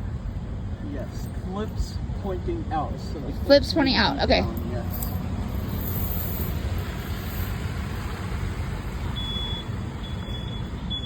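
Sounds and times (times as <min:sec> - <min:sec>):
motor vehicle low rumble: 0:00.0 - 0:11.0.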